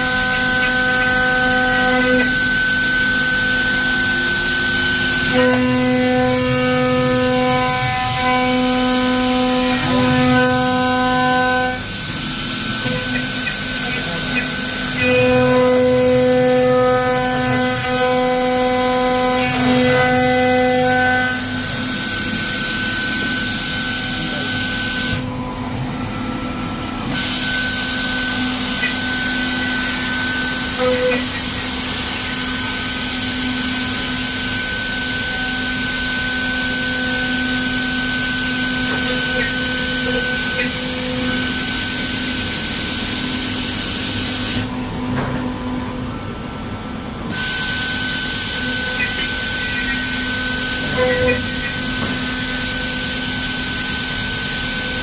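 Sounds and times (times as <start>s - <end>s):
router spindle whine: 0.0s - 55.0s.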